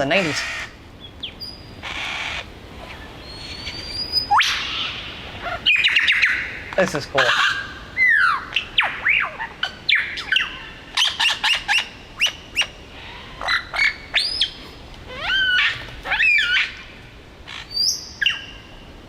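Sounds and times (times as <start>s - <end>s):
lyrebird singing mimicked calls: 0.0s - 16.8s.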